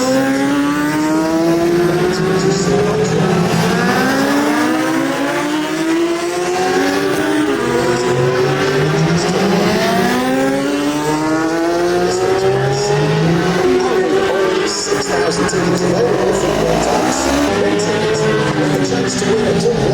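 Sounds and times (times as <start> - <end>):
racing motorbikes accelerating: 0.0 - 19.9.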